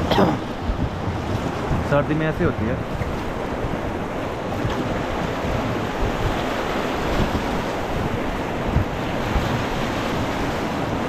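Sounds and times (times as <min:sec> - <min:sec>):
river rapid rushing: 0:00.0 - 0:11.0
wind buffeting microphone: 0:00.0 - 0:11.0.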